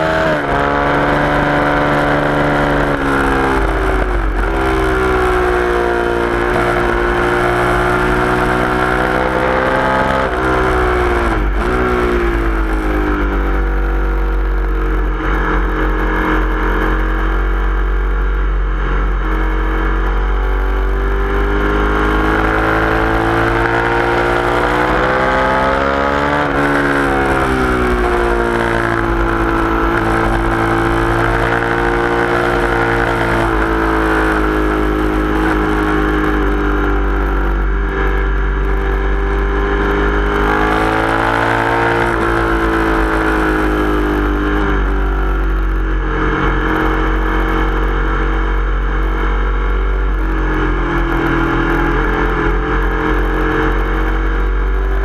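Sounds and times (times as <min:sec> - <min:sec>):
motorcycle engine revving high: 0:00.0 - 0:55.0.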